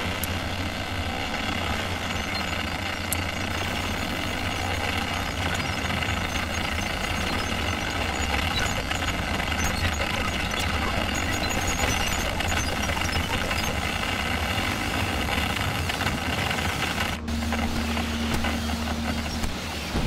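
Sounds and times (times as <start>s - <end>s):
dense grainy electronic wash: 0.0s - 20.0s
low electronic hum: 0.0s - 20.0s.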